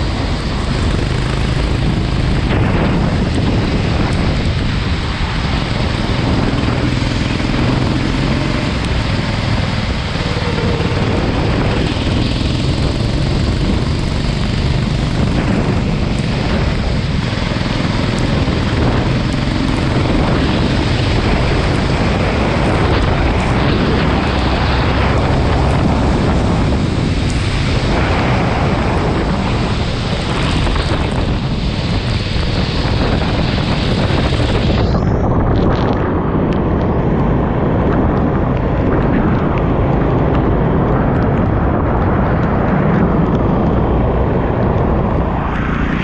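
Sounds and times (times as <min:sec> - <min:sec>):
go-kart engine running: 0:00.0 - 0:46.0
wind noise on microphone: 0:00.0 - 0:46.0.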